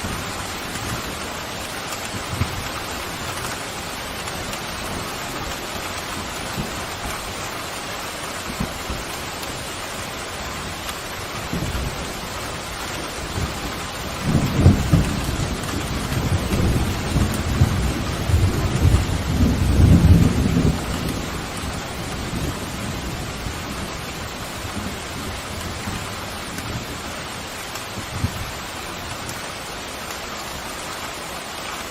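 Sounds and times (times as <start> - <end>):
rolling thunder rumble: 0.0 - 29.7
heavy rain: 0.0 - 31.9.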